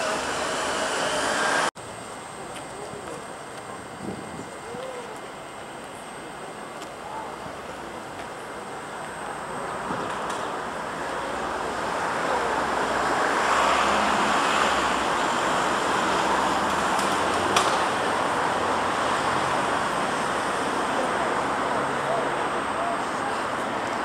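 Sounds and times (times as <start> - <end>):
street traffic noise: 0.0 - 24.0.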